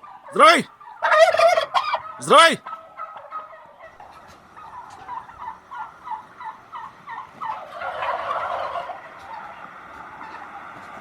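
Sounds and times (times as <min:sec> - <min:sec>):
turkeys yelping: 0:00.0 - 0:10.5
turkey gobble: 0:00.0 - 0:10.7.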